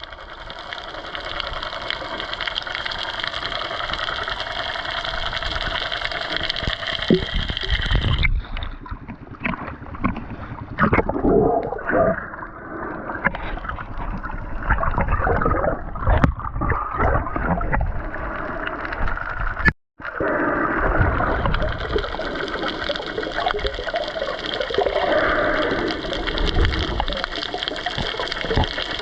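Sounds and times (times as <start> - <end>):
underwater gurgling and bubbling: 0.0 - 29.0.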